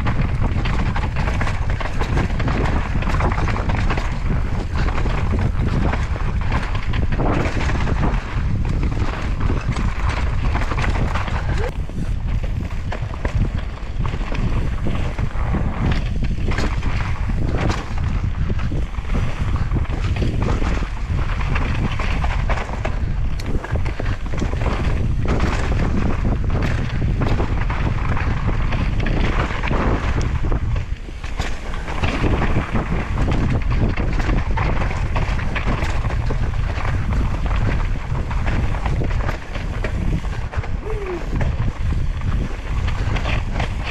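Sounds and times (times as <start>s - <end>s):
bike knocking and rattling: 0.0s - 43.9s
bike tyres on dirt: 0.0s - 43.9s
wind rushing over microphone: 0.0s - 43.9s.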